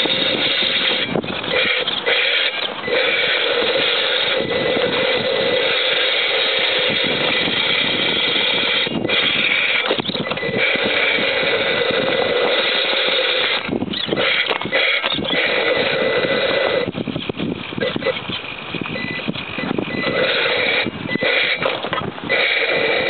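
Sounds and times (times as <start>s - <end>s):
toy car electric motor whining: 0.0s - 23.0s.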